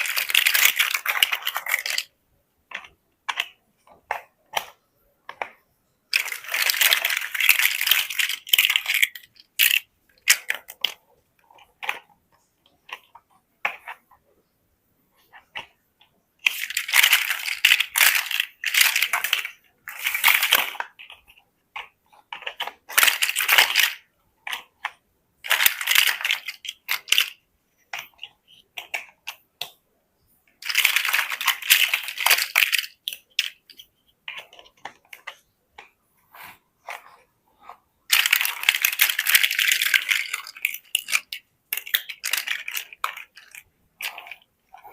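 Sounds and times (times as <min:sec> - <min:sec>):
plastic bricks rattling: 0:00.0 - 0:02.1, 0:02.7 - 0:14.0, 0:16.4 - 0:29.8, 0:30.6 - 0:35.9, 0:36.8 - 0:44.9.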